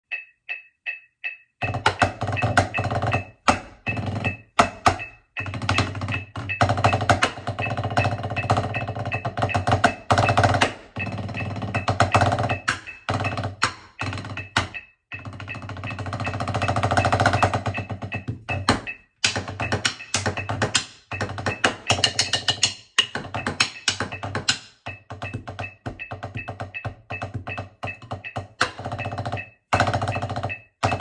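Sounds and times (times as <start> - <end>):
drumsticks on practice pad: 0.0 - 31.0
metronome ticking: 0.0 - 31.0.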